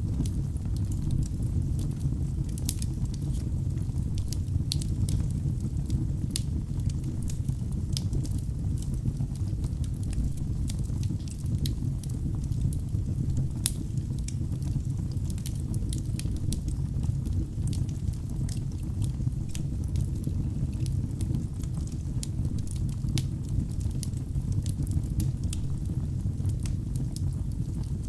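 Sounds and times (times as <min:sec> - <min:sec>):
log fire crackling and popping: 0:00.0 - 0:28.0.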